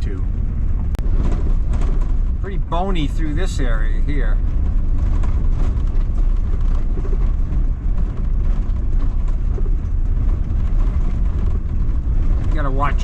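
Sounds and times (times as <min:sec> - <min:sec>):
tires knocking and rattling on stones: 0:00.0 - 0:13.0
van engine rumbling: 0:00.0 - 0:13.0.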